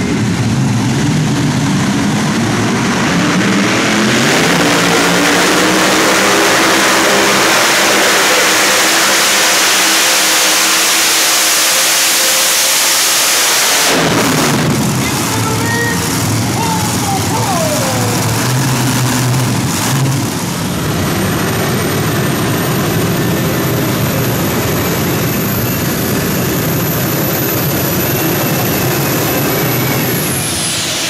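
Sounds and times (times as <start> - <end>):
tractor engines at full throttle: 0.0 - 31.0.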